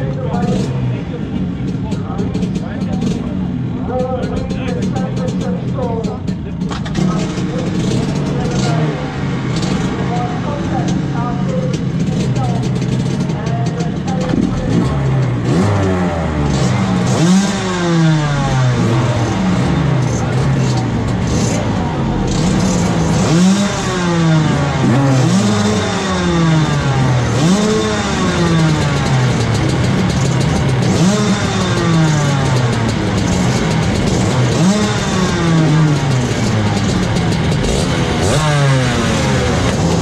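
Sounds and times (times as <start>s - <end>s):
kart engines revving: 0.0s - 40.0s.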